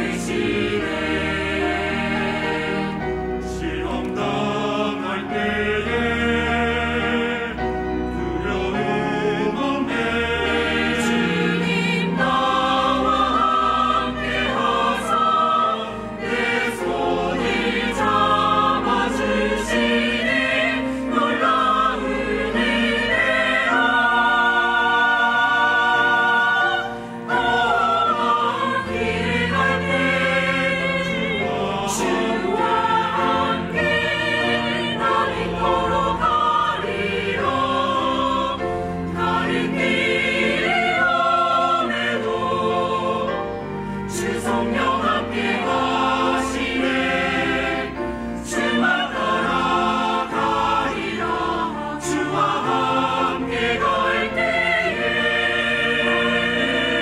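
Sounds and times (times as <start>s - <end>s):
mixed choir singing: 0.0s - 57.0s
piano accompaniment: 0.0s - 57.0s.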